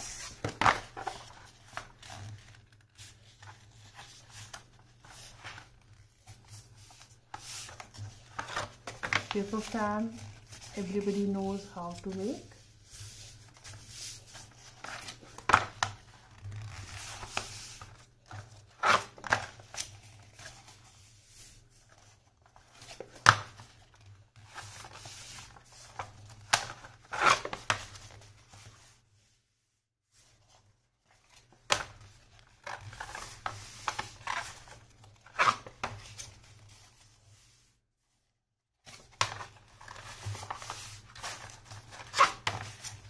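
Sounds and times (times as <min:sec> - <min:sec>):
paper rustling and crackling: 0:00.0 - 0:28.9, 0:30.2 - 0:37.6, 0:38.8 - 0:43.0.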